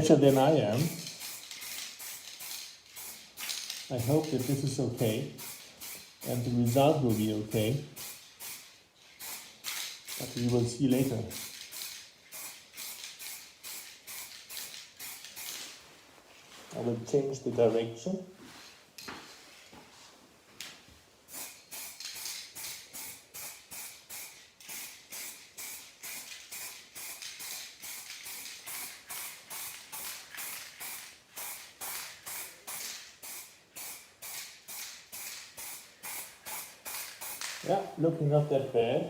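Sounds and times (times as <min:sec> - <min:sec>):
spray paint can puffs: 0:00.0 - 0:15.8, 0:21.3 - 0:37.8.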